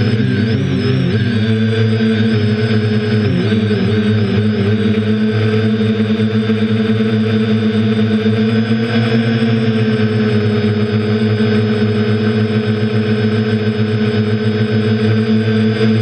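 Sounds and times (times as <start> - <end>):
drone motors buzzing: 0.0 - 16.0.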